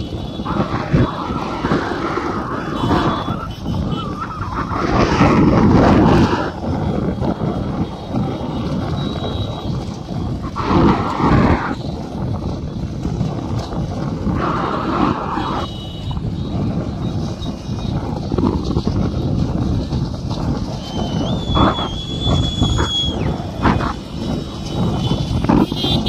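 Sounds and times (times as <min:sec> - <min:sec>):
motorcycle engines running: 0:00.0 - 0:26.0.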